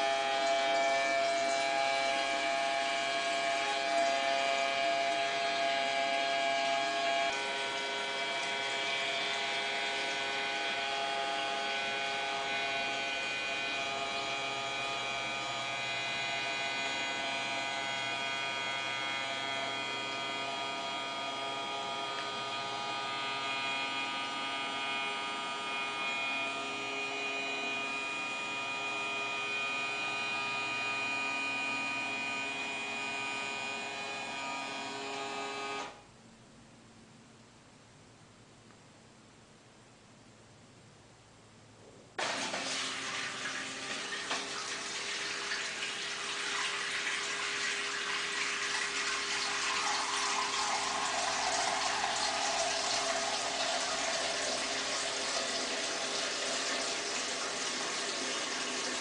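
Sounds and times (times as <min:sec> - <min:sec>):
electric pump motor humming: 0:00.0 - 0:36.0, 0:42.2 - 0:59.0.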